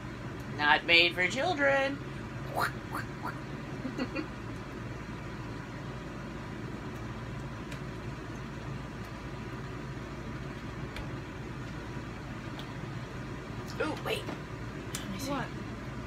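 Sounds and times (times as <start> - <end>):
low hum with hiss: 0.0 - 16.0.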